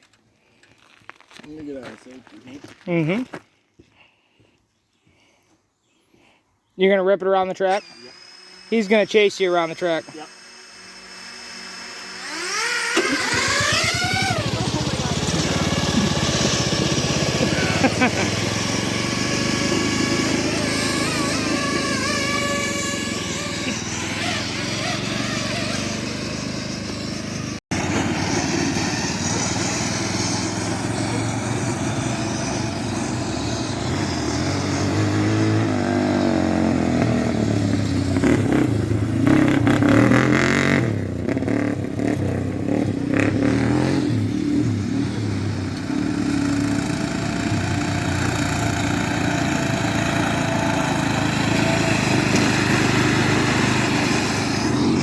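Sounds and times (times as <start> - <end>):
lawnmower engine running: 7.6 - 55.0.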